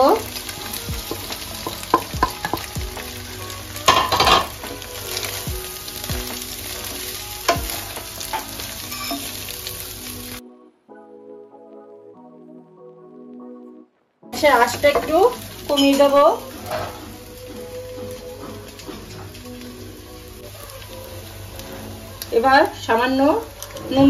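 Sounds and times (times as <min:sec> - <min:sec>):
food sizzling in a pan: 0:00.0 - 0:10.4, 0:14.4 - 0:24.0.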